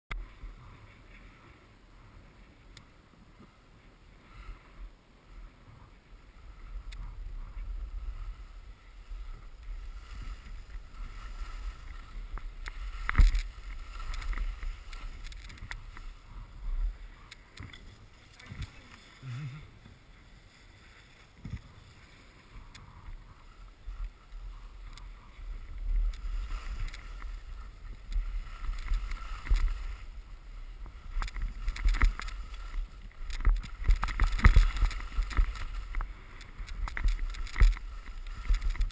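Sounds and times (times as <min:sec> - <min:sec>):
wind rumbling on microphone: 0:00.1 - 0:38.9
skis scraping over snow: 0:03.2 - 0:38.9.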